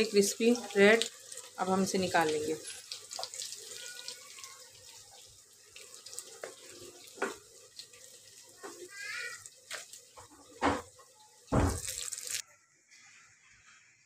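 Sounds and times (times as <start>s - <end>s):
oil sizzling in a frying pan: 0.0s - 12.4s.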